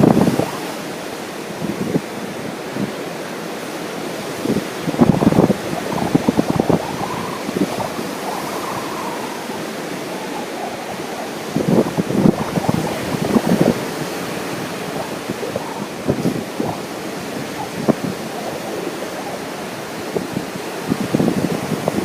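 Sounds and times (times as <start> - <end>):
ocean surf: 0.0 - 22.0
wind buffeting microphone: 0.0 - 22.0.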